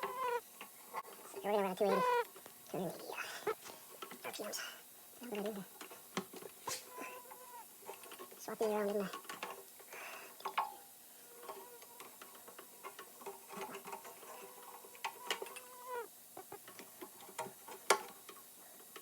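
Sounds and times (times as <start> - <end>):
faint machine whine: 0.0 - 19.0.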